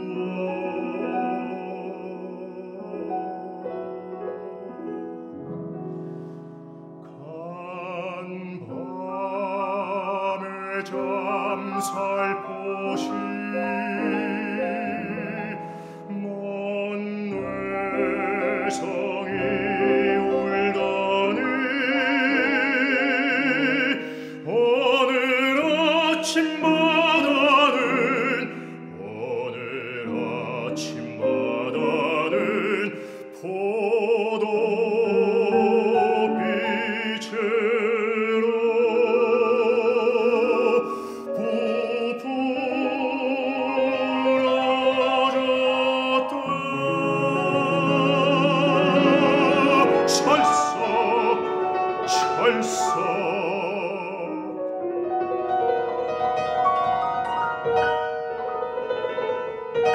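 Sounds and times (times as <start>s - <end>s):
man singing operatically: 0.0s - 4.8s, 7.1s - 54.8s
piano accompaniment: 0.0s - 59.9s.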